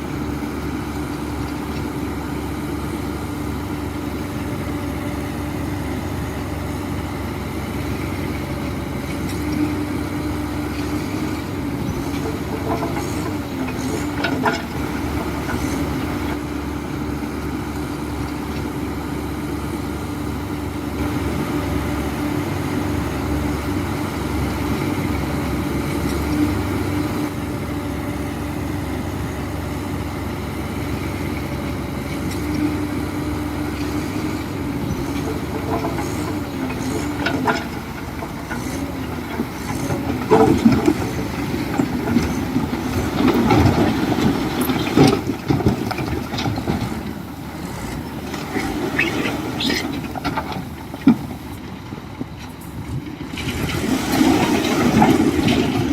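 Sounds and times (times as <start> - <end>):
heavy diesel machine running: 0.0 - 55.9.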